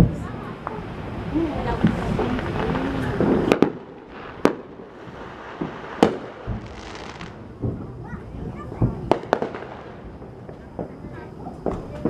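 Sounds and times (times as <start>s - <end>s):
fireworks cracking: 0.0s - 12.0s.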